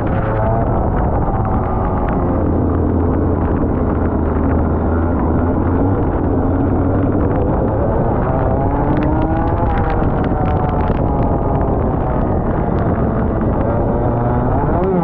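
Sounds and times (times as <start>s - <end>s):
kart engine running hard: 0.0s - 15.0s.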